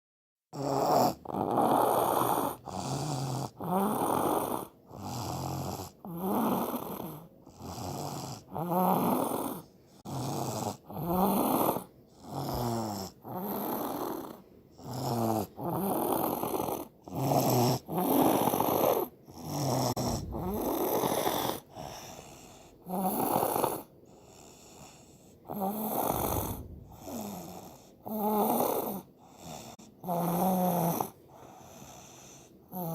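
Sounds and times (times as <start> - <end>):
child snoring: 0.5 - 32.9.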